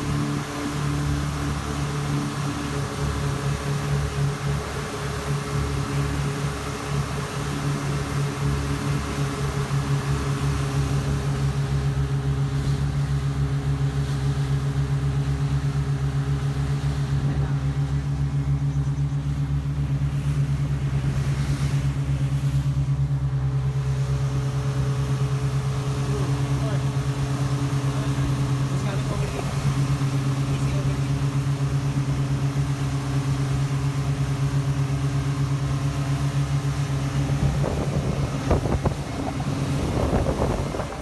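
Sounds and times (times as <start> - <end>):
boat engine running at low revs: 0.0 - 41.0.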